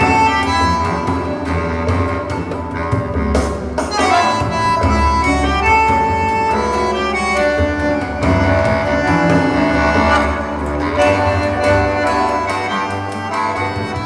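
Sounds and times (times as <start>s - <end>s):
recorded music over loudspeakers: 0.0s - 14.0s.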